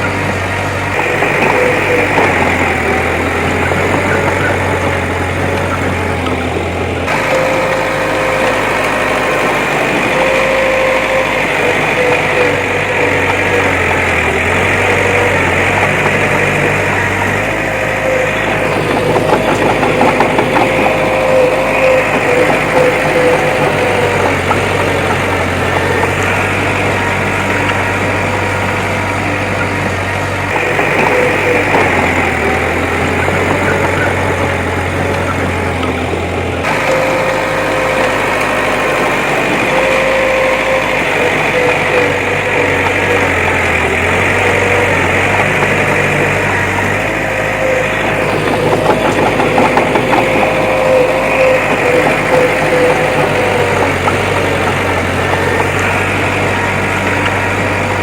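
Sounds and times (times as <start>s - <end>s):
diesel engine of earthmoving machine: 0.0s - 58.0s.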